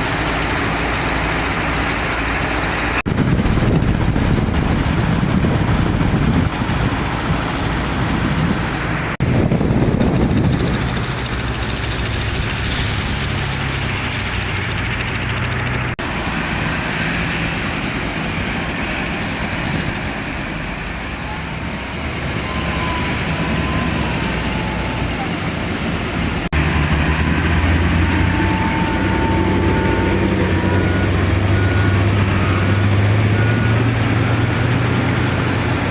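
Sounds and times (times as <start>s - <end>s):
heavy machinery rumbling: 0.0s - 35.9s.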